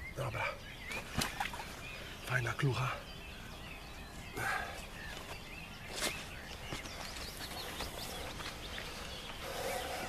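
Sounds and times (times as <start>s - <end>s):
birds chirping: 0.0s - 10.0s
outdoor background hiss: 0.0s - 10.0s.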